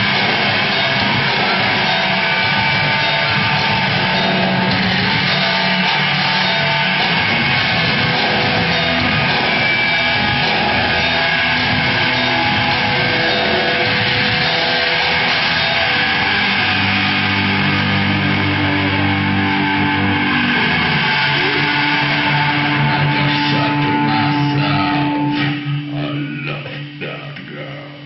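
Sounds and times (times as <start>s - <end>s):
distorted electric guitar: 0.0s - 28.0s.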